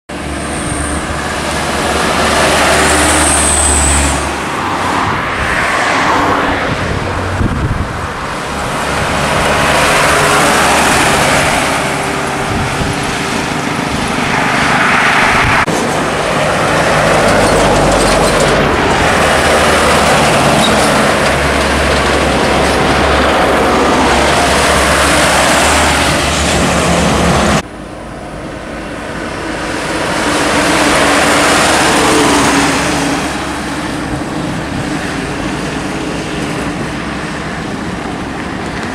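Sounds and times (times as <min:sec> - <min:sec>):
highway traffic passing: 0:00.1 - 0:38.9.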